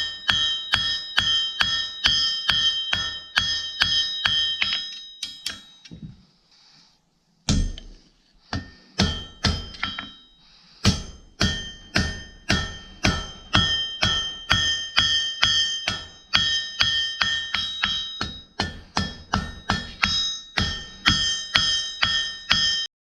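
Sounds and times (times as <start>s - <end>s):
hammer ringing on hot steel: 0.0s - 6.0s, 7.4s - 22.9s.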